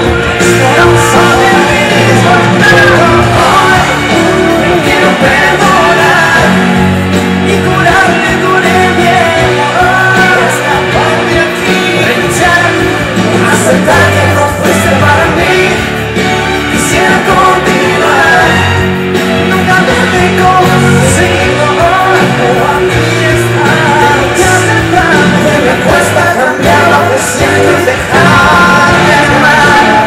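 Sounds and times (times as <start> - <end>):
electric guitar: 0.0 - 30.0
man singing: 0.0 - 30.0
piano: 0.0 - 30.0.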